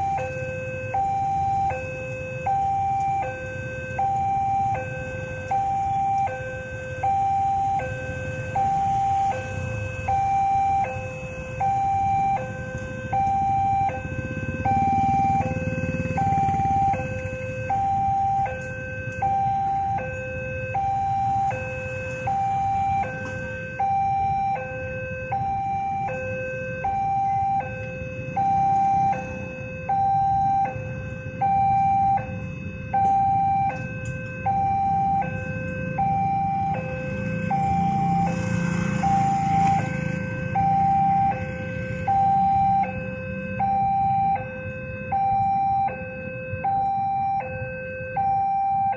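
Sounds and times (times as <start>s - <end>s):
motorbike engines idling: 0.0s - 46.0s
railroad crossing alarm two-tone: 0.0s - 48.9s.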